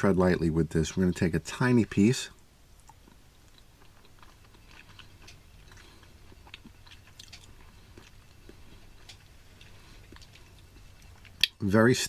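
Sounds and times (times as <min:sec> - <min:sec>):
low steady hum: 0:00.0 - 0:12.0
close-up chewing: 0:00.8 - 0:11.6.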